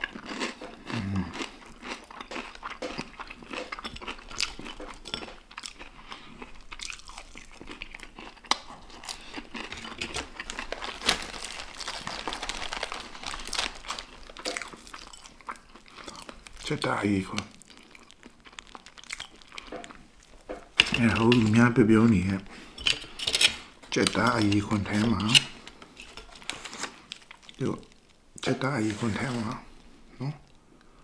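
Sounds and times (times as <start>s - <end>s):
chewing crispy fried chicken: 0.0s - 21.6s, 23.0s - 28.8s.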